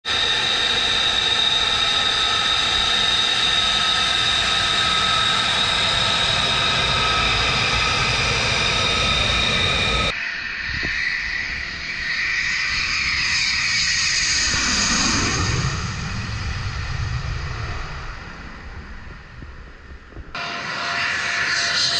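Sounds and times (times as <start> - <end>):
jet engine high whine: 0.0 - 21.9
jet flying low overhead: 0.0 - 21.9.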